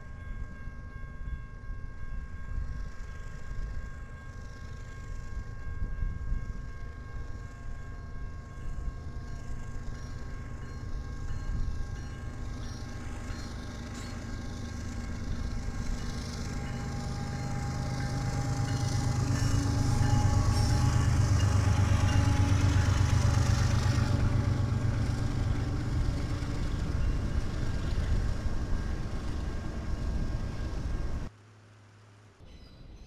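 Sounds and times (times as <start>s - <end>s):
diesel locomotives droning: 0.0s - 33.0s
rail noise: 0.0s - 33.0s.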